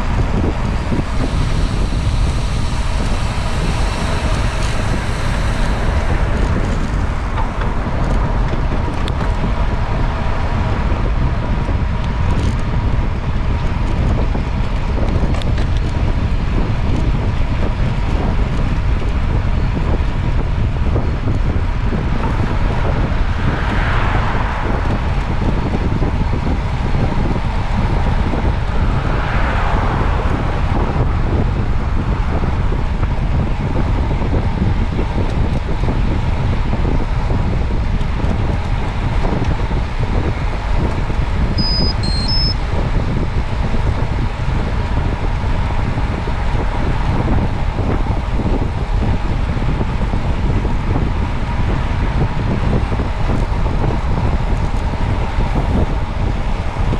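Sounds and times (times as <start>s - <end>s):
road rumble: 0.0s - 56.9s
wind rushing over microphone: 0.0s - 56.9s.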